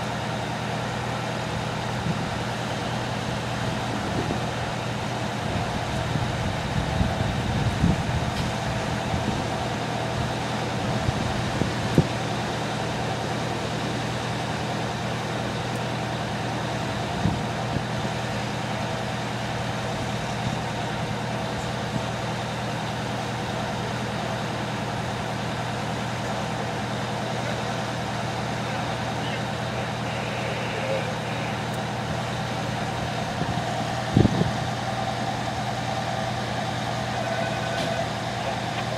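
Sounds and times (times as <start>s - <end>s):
fire truck engine idling: 0.0s - 38.9s.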